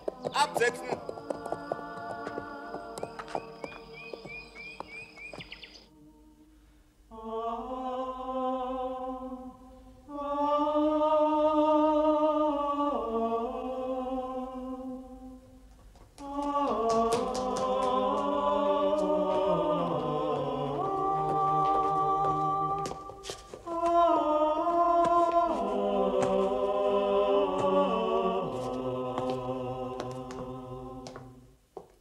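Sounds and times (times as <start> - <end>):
monks chanting: 0.0 - 4.2, 7.1 - 15.2, 16.2 - 31.4.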